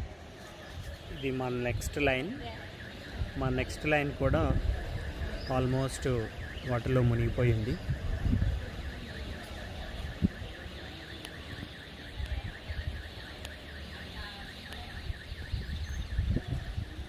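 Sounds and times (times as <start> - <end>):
distant car alarm warbling: 0.0 - 17.0.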